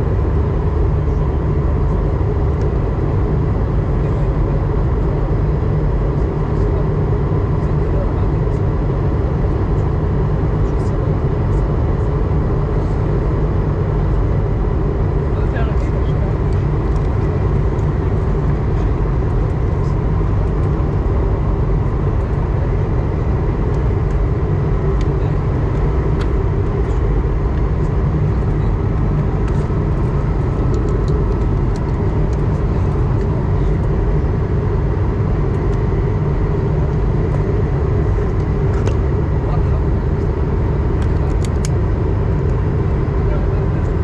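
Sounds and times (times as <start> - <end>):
airliner cabin noise: 0.0 - 44.0.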